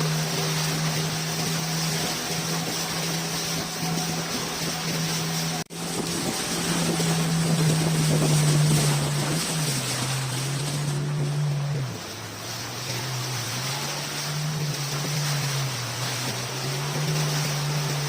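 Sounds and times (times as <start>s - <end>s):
outboard motor running: 0.0s - 18.0s
rushing water: 0.0s - 18.0s
wind: 0.0s - 18.0s.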